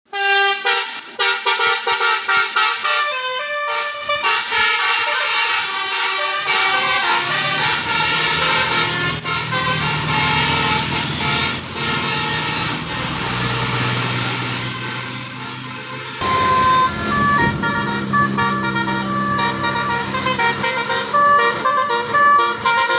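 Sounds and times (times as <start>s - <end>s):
multi-tone bus horn tune: 0.1s - 22.9s
bus engine running: 0.9s - 22.9s.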